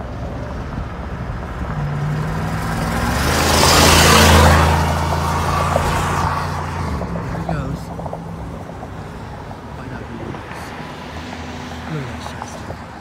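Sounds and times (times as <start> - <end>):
vehicle passing close by: 0.7 - 13.0.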